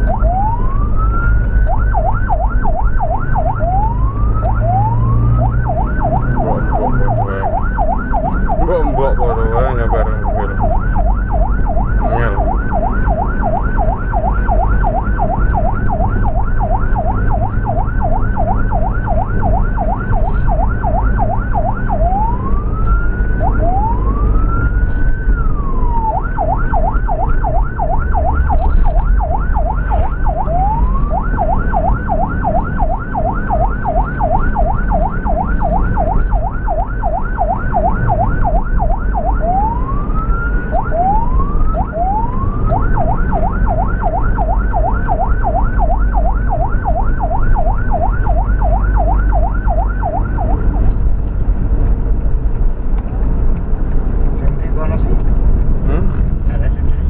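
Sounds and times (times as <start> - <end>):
ambulance siren yelping and wailing: 0.0 - 52.5
low engine and road rumble: 0.0 - 57.0.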